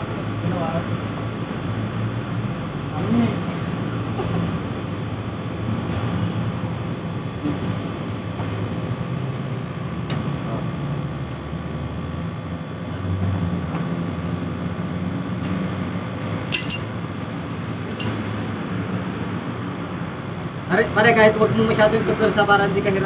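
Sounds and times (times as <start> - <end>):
electric motor and fan hum: 0.0 - 23.0.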